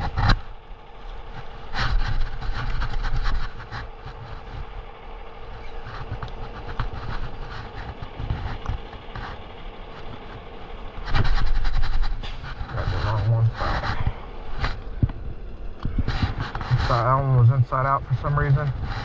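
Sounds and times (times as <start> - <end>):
low steady rumble: 0.0 - 19.0
rustling and clicking handling noises: 0.0 - 19.0.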